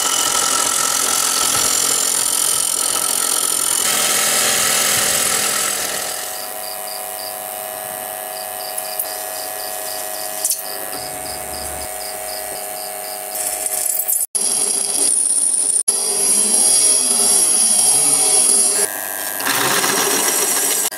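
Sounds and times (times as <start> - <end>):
drill press boring into steel: 0.0 - 7.1, 8.7 - 20.9.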